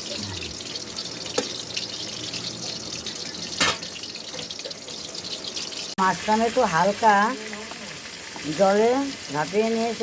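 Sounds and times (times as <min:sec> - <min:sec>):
cooking oil sizzling in a pan: 0:00.0 - 0:10.0.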